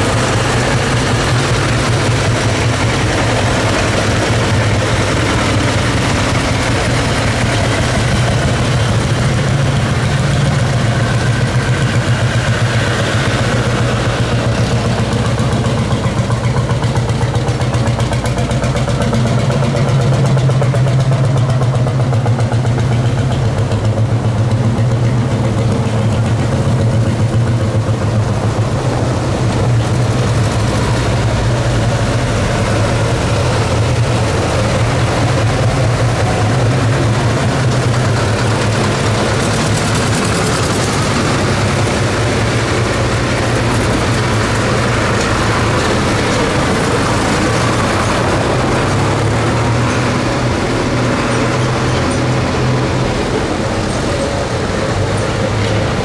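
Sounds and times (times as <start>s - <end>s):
tractor engine droning: 0.0s - 56.0s.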